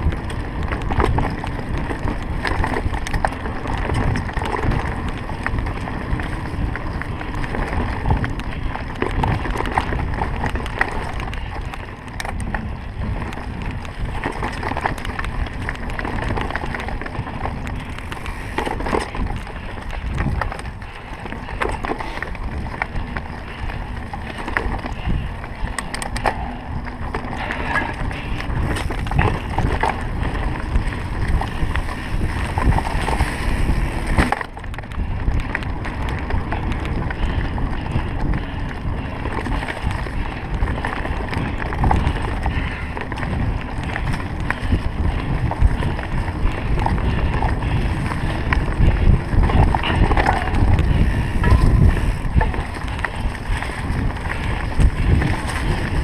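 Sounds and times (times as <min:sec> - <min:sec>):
bike clicks and rattles: 0:00.0 - 0:56.0
bike tyres on dirt: 0:00.0 - 0:56.0
wind rumbling on microphone: 0:00.0 - 0:56.0.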